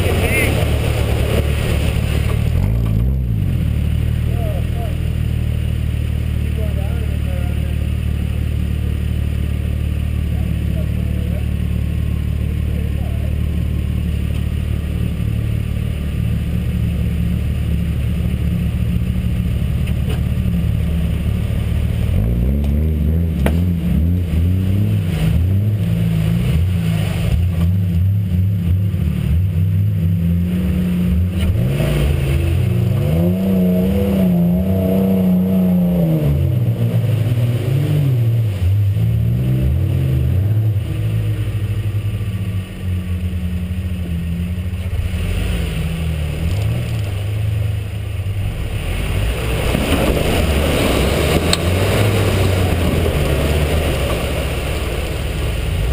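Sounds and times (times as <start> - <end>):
truck engine idling and revving: 0.0 - 55.9.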